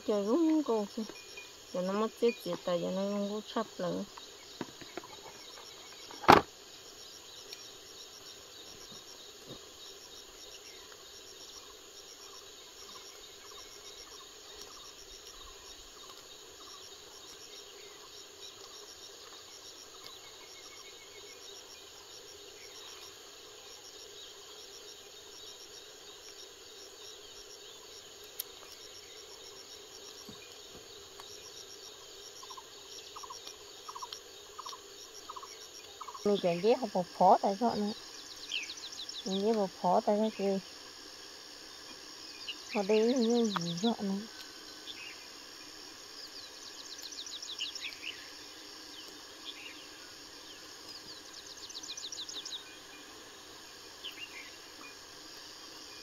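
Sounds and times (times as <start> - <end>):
insect chirring trill: 0.0 - 56.0.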